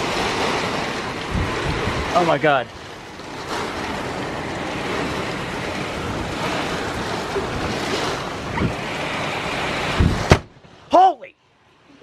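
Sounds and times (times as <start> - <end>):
wind gusts: 0.0 - 10.3
rain: 0.0 - 12.0.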